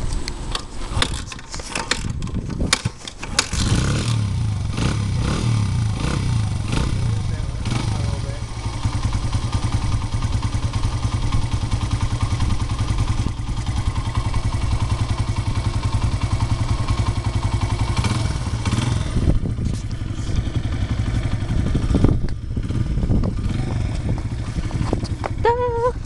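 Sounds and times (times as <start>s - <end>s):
dirt bike engine idling: 3.2s - 26.0s.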